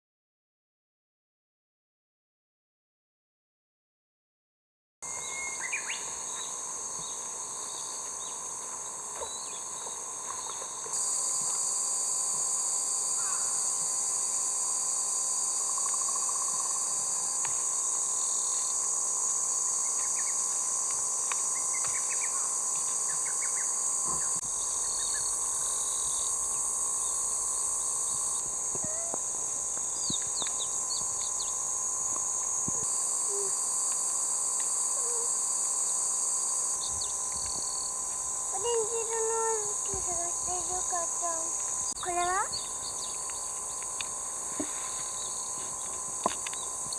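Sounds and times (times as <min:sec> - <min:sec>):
insects droning high-pitched: 0:05.0 - 0:46.9.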